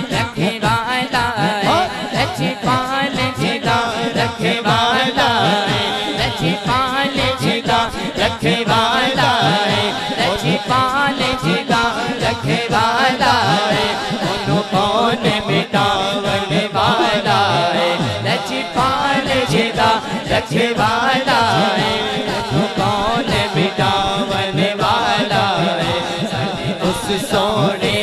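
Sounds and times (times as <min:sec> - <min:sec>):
man singing into a microphone: 0:00.0 - 0:28.0.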